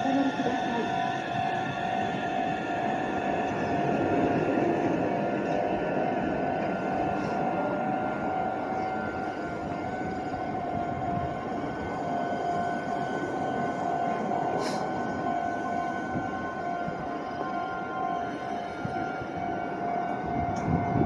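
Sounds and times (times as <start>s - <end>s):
electric train rolling: 0.0s - 21.0s
train motor whine: 0.0s - 21.0s.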